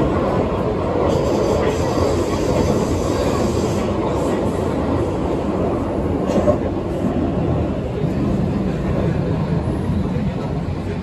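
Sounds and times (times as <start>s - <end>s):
train rumbling through tunnel: 0.0s - 11.0s.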